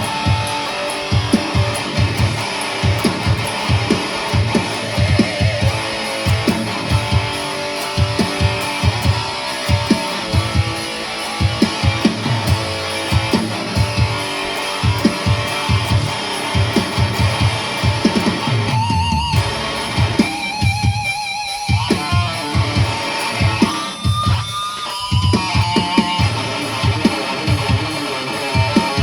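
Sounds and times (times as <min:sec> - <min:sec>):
electric guitar playing: 0:00.0 - 0:29.0.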